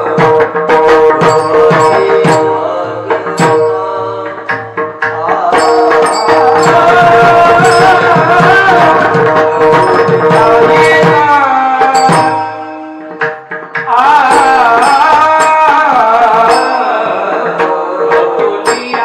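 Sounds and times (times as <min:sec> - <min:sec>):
devotional singing: 0:00.0 - 0:13.2, 0:13.9 - 0:19.0
hand drum strokes: 0:00.0 - 0:19.0.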